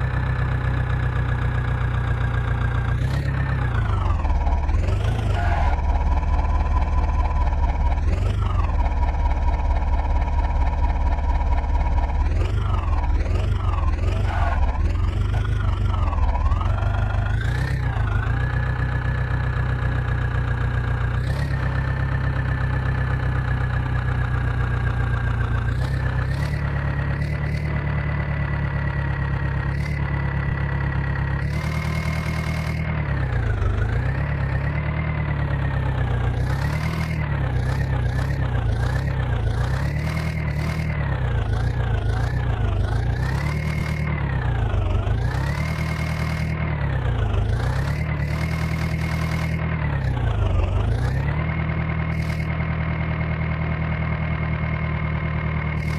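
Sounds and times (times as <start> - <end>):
diesel engine revving: 0.0 - 55.9.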